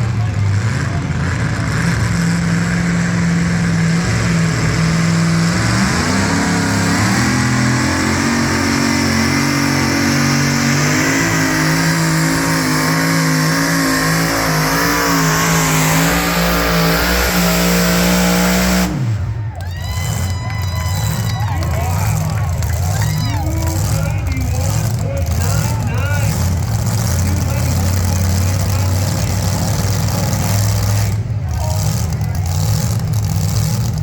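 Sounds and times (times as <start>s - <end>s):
truck engine running hard: 0.0s - 34.0s.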